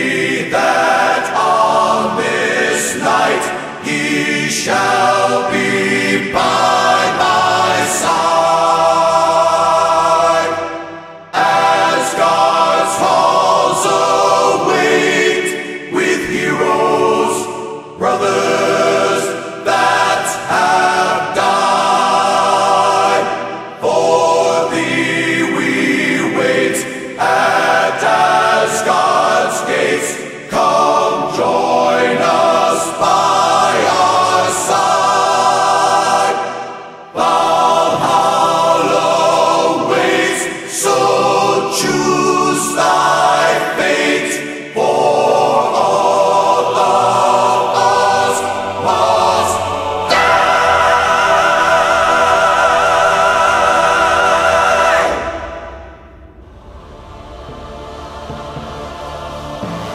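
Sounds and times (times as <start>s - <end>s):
choir singing held chords: 0.0s - 59.9s.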